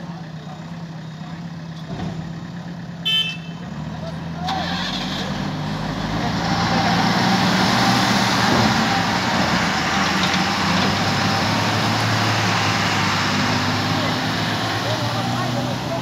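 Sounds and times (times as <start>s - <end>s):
diesel engines running under load: 0.0s - 16.0s.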